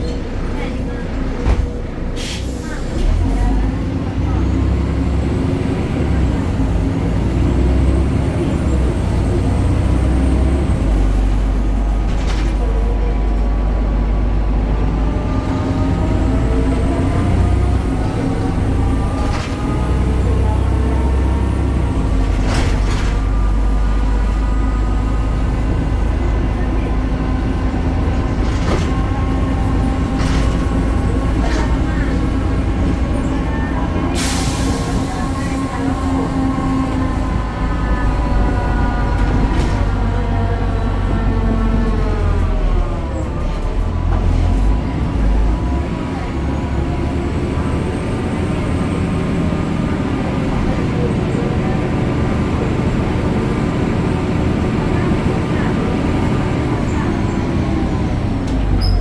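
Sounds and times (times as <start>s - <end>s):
bus diesel engine humming: 0.0s - 59.0s.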